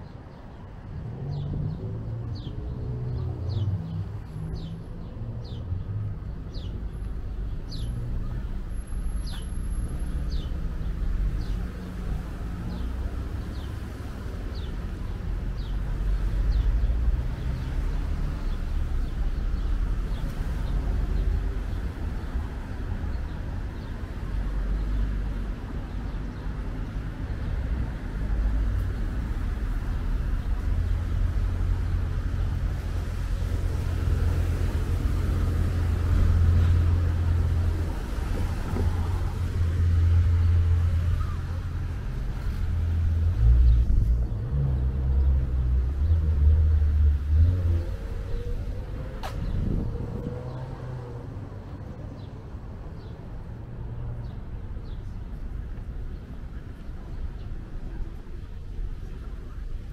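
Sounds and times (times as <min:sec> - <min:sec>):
low traffic rumble: 0:00.0 - 0:59.9.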